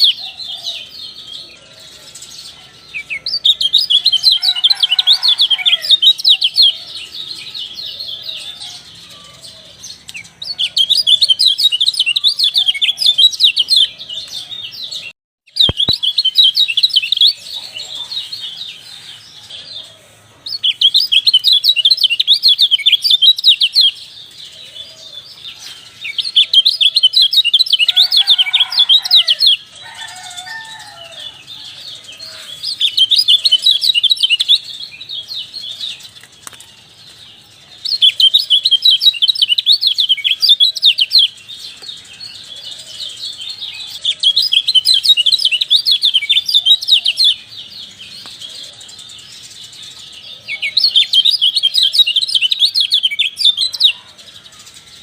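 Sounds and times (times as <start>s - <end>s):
bird high rapid chirping: 2.1s - 18.8s, 20.5s - 24.4s, 25.1s - 54.0s.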